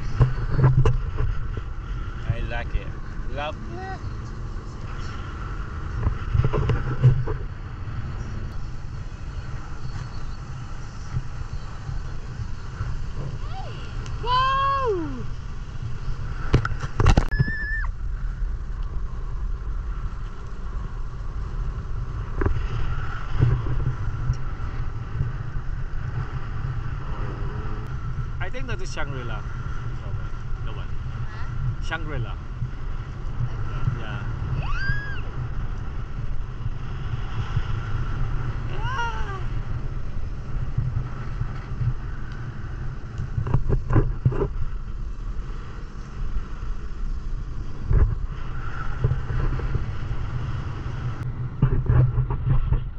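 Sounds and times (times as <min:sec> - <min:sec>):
speedboat engine rumbling: 0:00.0 - 0:52.9
wind noise on microphone: 0:00.0 - 0:52.9.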